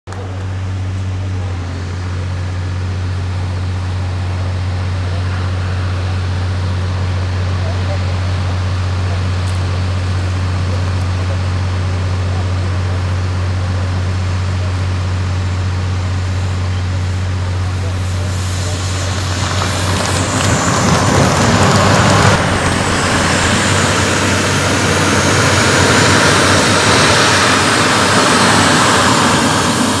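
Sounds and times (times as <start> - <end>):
model jet engine running: 0.1 - 30.0.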